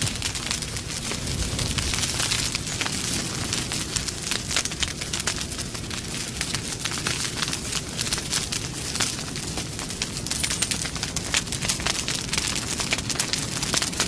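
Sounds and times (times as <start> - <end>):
campfire crackling and popping: 0.0 - 14.0
low rumble of burning: 0.0 - 14.0.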